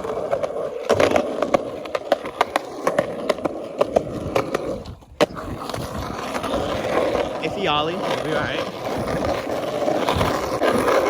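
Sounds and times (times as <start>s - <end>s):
skateboard wheels clicking over joints: 0.0s - 11.0s.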